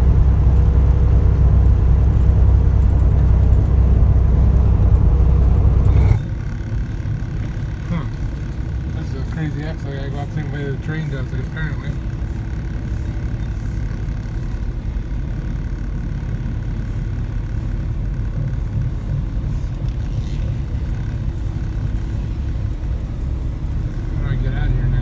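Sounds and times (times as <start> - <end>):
truck diesel engine rumble: 0.0 - 25.0.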